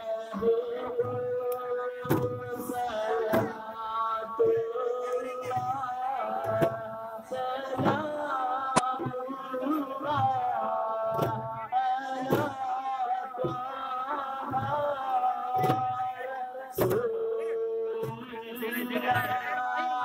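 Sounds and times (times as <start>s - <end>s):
man singing: 0.0s - 20.0s
slow drum beat: 0.3s - 20.0s.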